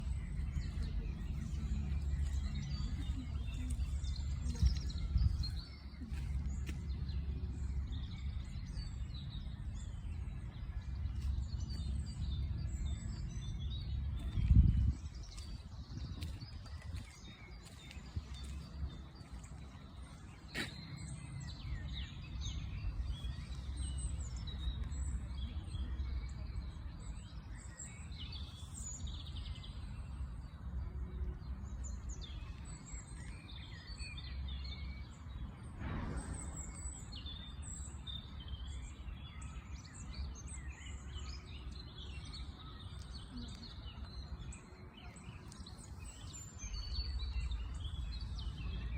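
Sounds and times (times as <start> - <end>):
small birds chirping: 0.0 - 48.9
steady low rumble: 0.0 - 48.9.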